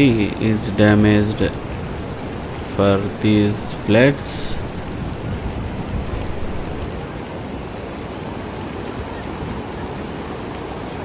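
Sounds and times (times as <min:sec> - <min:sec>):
floodwater rushing: 0:00.0 - 0:08.8.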